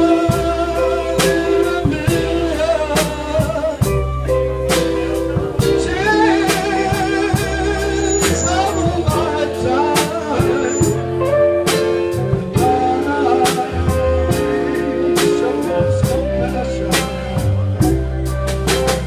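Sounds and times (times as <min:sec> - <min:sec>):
man singing into microphone: 0:00.0 - 0:18.0
drums keeping a beat: 0:00.0 - 0:19.0
electric guitar: 0:00.0 - 0:19.0
keyboard: 0:00.0 - 0:19.0.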